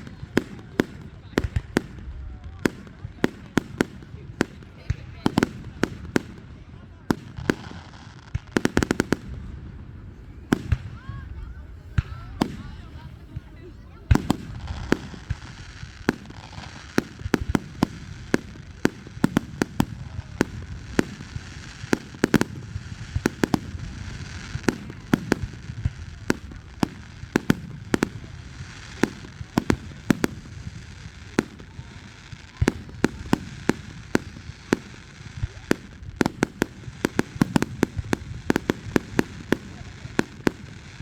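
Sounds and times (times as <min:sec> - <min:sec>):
fireworks bangs and pops: 0:00.0 - 0:41.0.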